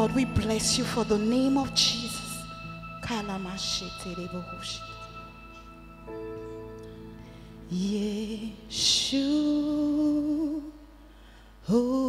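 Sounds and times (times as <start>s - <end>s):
person singing with vibrato: 0.0s - 6.0s, 7.3s - 12.0s
soft sustained chords: 0.0s - 11.0s.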